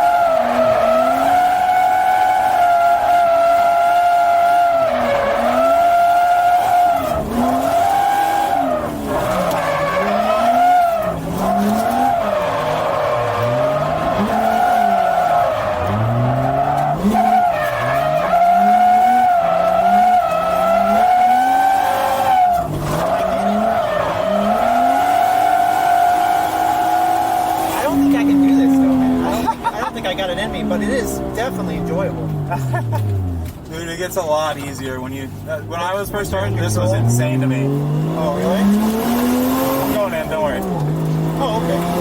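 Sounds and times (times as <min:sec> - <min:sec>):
car engine revving: 0:00.0 - 0:42.0
tyres squealing: 0:00.0 - 0:42.0.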